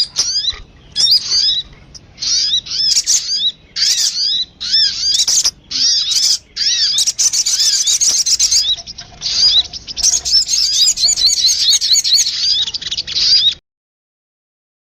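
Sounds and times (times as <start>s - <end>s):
rapid high bird chirps: 0.0s - 13.6s.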